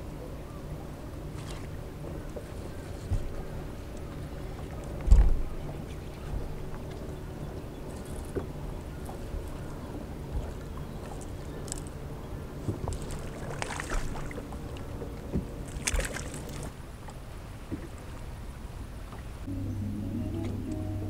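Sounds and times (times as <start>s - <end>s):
boat low hum: 0.0s - 21.0s.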